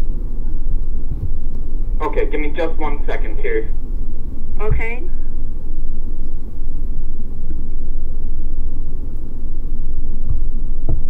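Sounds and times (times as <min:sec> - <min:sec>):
low rumble of phone line noise: 0:00.0 - 0:11.0.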